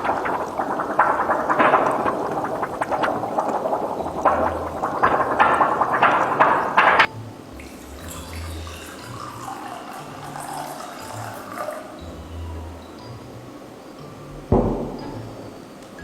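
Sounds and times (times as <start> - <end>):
water gurgling and splashing: 0.0 - 13.4.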